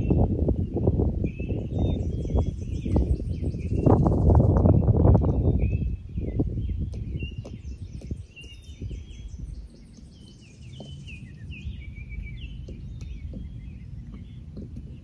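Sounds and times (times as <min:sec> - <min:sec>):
songbird chirping: 0:00.0 - 0:15.0
steady low rumble: 0:00.0 - 0:15.0.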